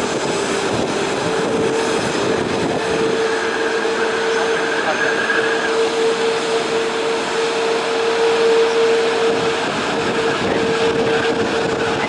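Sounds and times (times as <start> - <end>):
jet engine whine: 0.0 - 12.0
rushing noise: 0.0 - 12.0.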